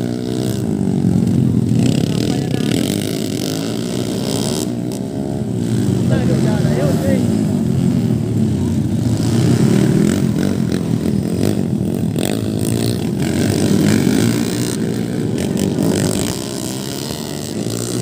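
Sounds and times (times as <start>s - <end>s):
motorcycle engines running loud: 0.0s - 18.0s.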